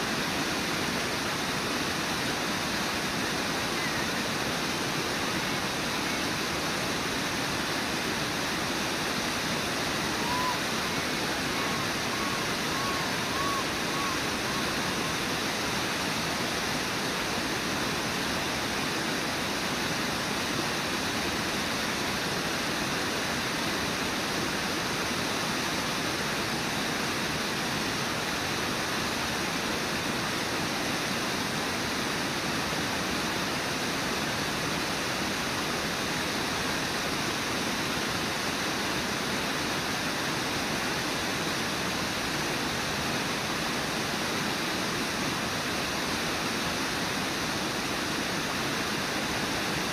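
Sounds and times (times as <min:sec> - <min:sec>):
waterfall and rapids roaring: 0:00.0 - 0:49.9.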